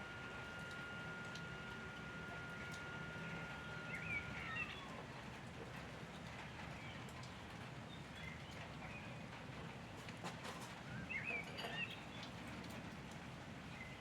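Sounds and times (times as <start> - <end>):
outdoor background hum: 0.0 - 14.0.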